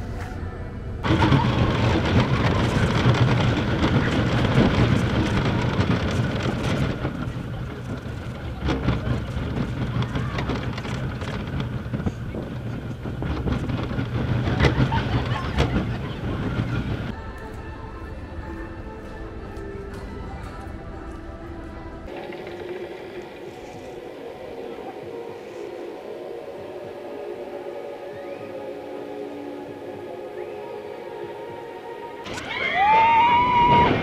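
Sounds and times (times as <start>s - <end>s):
roller coaster rattling on track: 0.2s - 17.2s, 22.0s - 34.0s.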